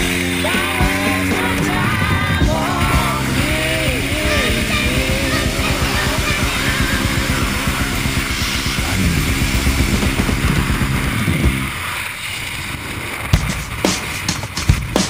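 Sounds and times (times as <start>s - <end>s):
hissy noise: 0.0s - 15.0s
sharp hits: 1.0s - 15.0s.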